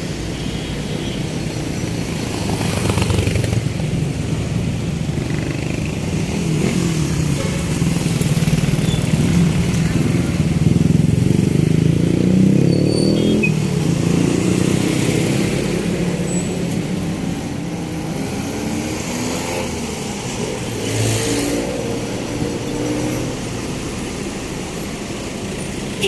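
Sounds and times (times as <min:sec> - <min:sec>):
vehicle engines running: 0:01.6 - 0:26.0.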